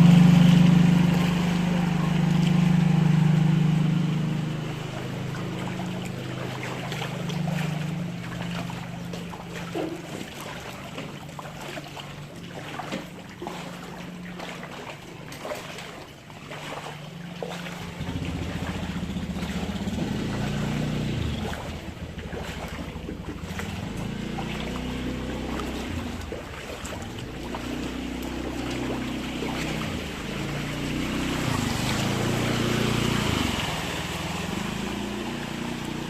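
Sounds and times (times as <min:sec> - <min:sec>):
deep engine rumble: 0:00.0 - 0:36.0
vehicle engine running: 0:00.0 - 0:36.0
water sloshing and splashing: 0:00.0 - 0:36.0.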